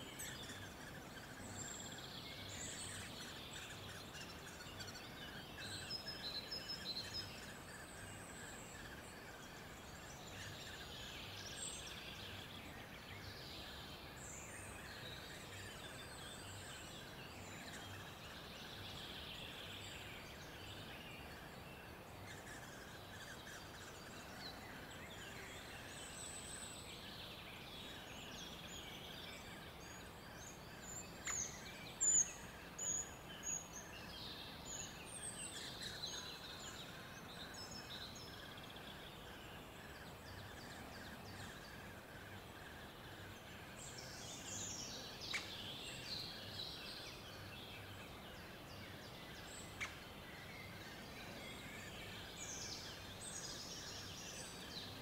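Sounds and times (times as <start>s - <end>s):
faint background hiss: 0.0s - 55.0s.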